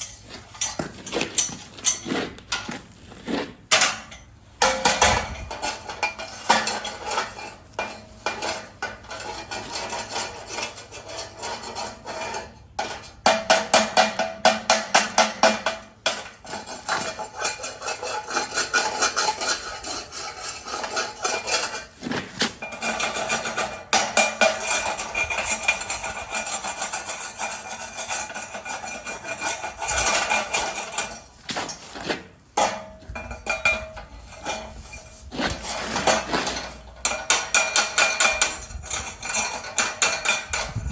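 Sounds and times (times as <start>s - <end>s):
metal hand tools clinking and scraping: 0.0s - 14.3s, 15.4s - 40.9s.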